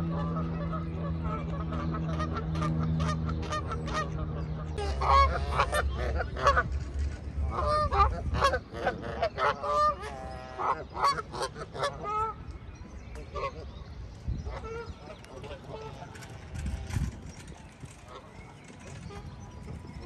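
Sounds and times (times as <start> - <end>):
flock of birds calling: 0.0 - 20.0
steady low hum: 0.0 - 20.0.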